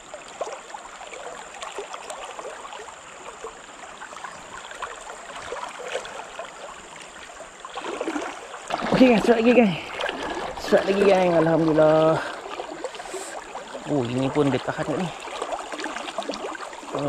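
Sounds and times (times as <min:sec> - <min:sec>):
river flowing with gurgles: 0:00.0 - 0:17.0.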